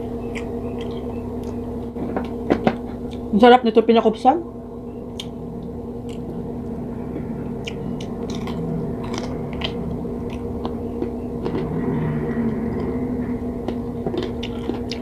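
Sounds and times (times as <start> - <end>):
chewing with wet mouth sounds: 0.0 - 3.3, 5.0 - 15.0
steady low hum: 0.0 - 15.0.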